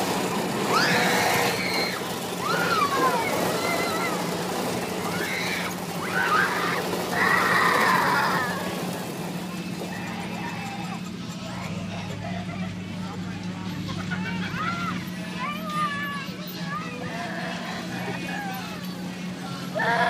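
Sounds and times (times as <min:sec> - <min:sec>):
riders shrieking: 0:00.0 - 0:13.1, 0:14.2 - 0:20.0
ride machinery humming: 0:00.0 - 0:20.0.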